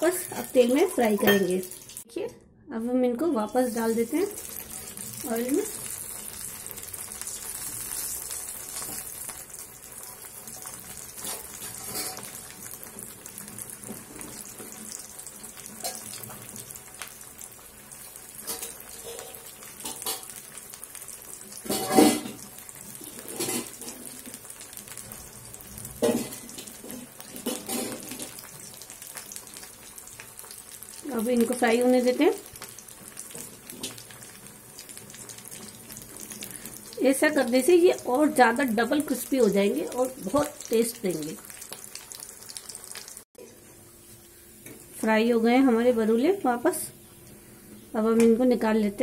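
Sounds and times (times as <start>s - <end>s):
food sizzling in hot oil: 0.0s - 2.1s, 3.3s - 49.0s.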